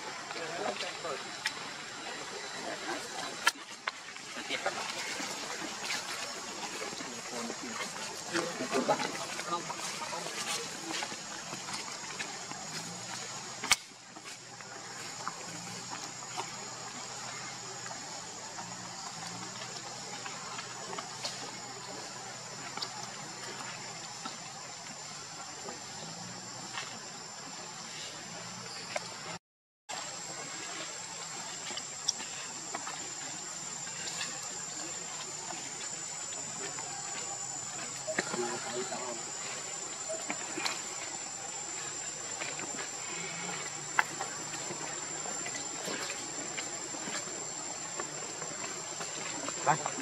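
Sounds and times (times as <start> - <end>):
outdoor background hiss: 0.0 - 50.0.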